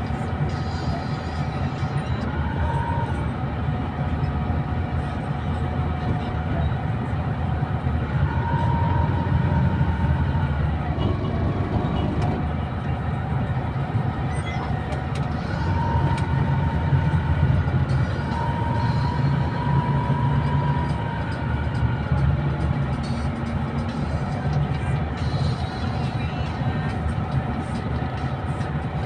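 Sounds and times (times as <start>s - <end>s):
bus engine and road drone: 0.0s - 29.0s.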